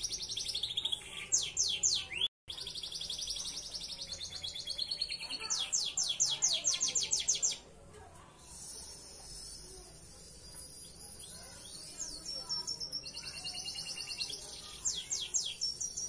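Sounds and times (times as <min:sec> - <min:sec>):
canary singing trills: 0:00.0 - 0:07.7, 0:08.4 - 0:16.0.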